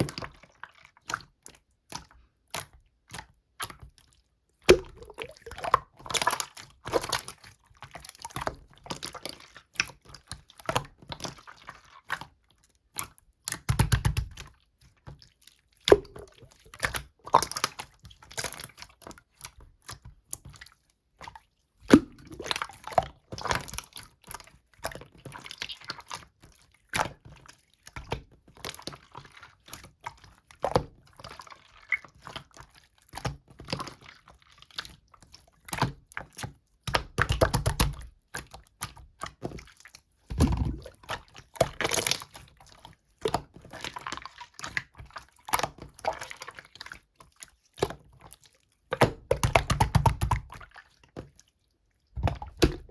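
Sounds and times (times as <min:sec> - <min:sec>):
slime squishing: 0:00.1 - 0:52.9.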